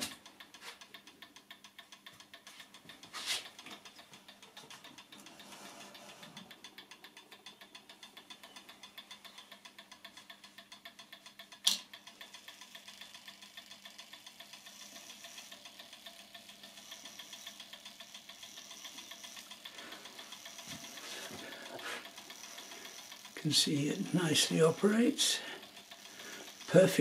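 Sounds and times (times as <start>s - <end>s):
clock ticking rapidly: 0.0s - 27.0s.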